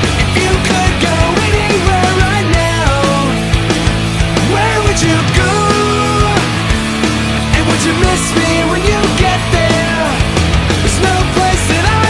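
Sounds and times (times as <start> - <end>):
rock music with drum beat: 0.0 - 12.0.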